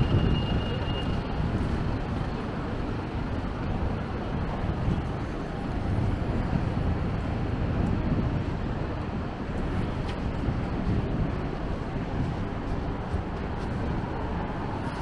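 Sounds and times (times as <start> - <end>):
cars and buses driving: 0.0 - 15.0.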